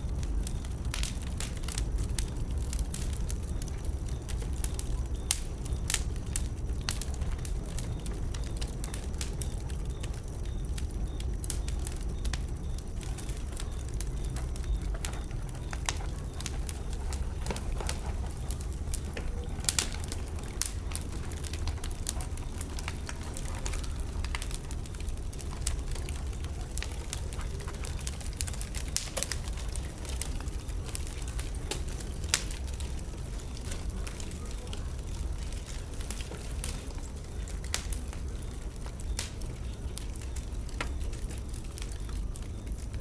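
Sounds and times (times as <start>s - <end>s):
bonfire pops and crackles: 0.0s - 43.0s
low fire rumble: 0.0s - 43.0s.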